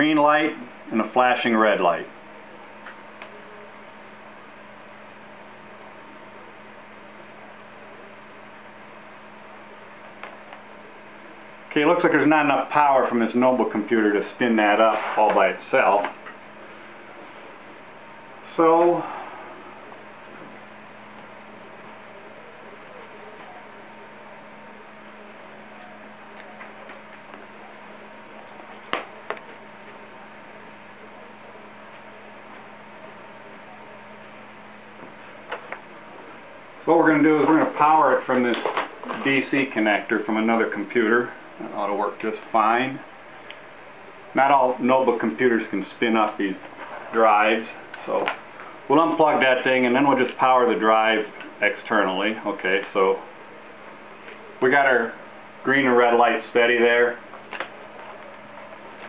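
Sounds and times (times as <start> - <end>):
low electrical hum with hiss: 0.0 - 59.0.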